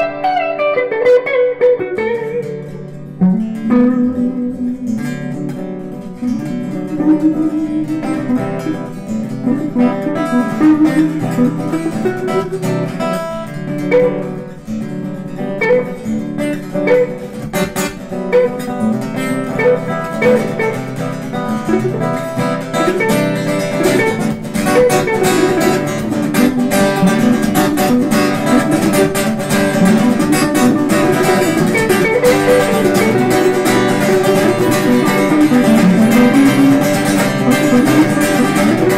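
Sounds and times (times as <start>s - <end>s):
acoustic guitar melody: 0.0s - 38.9s.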